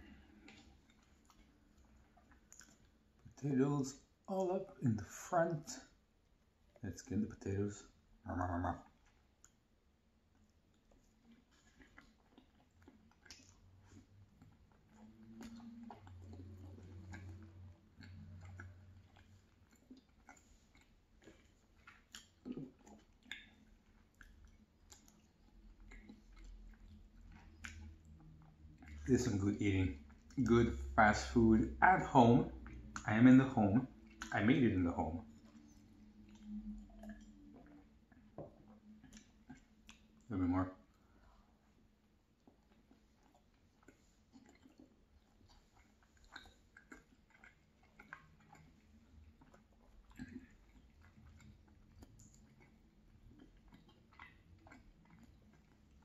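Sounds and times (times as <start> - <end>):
close chewing: 0.0 - 56.0.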